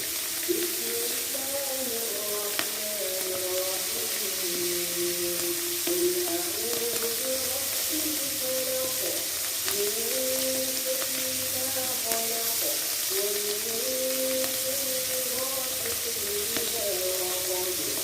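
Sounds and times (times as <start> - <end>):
background music: 0.0 - 18.0
fish sizzling in hot oil: 0.0 - 18.0.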